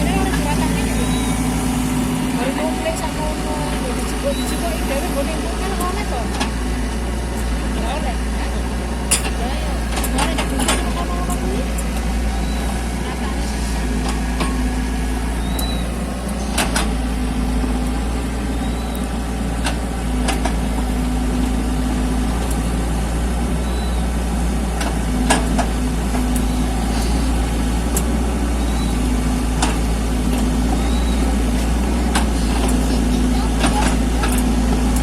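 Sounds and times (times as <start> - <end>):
excavator engine running: 0.0 - 35.0.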